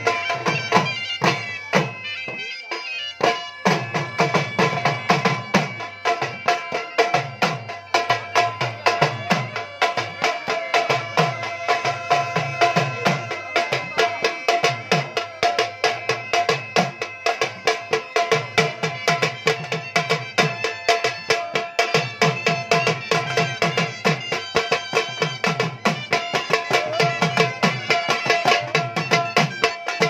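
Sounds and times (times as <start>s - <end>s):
drums beating dance rhythm: 0.0s - 30.0s.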